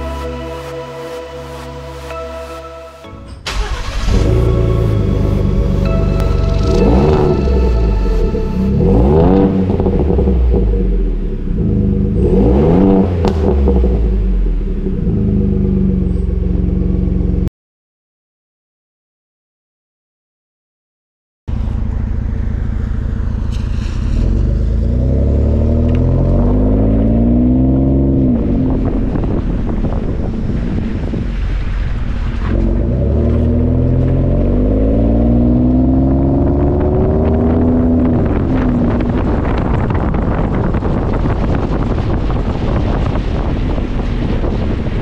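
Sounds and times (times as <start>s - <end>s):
road and wind noise: 3.4s - 17.5s, 21.5s - 45.0s
truck exhaust accelerating: 3.5s - 17.5s, 21.5s - 45.0s.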